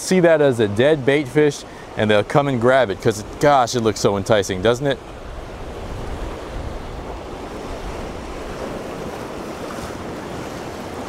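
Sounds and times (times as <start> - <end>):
ocean surf on rocky shore: 0.0 - 11.0
wind buffeting microphone: 0.7 - 11.0.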